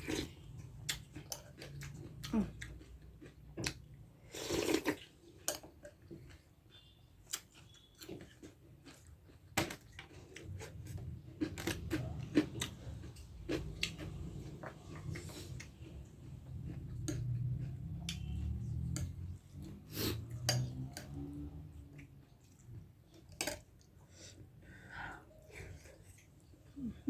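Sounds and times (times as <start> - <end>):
person chewing: 0.0 - 24.6.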